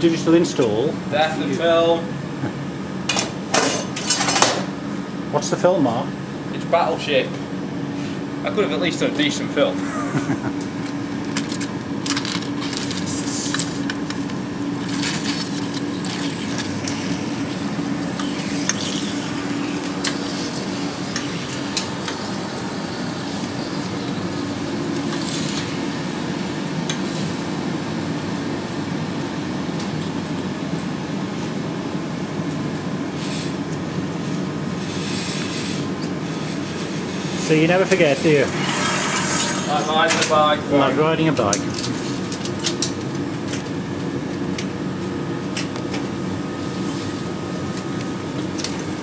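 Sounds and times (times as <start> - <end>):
machinery humming: 0.0 - 49.0.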